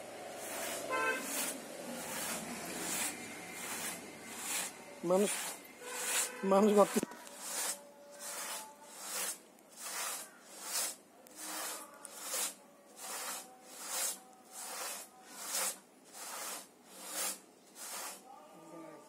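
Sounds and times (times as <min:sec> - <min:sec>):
pit saw rasping through log: 0:00.3 - 0:18.2.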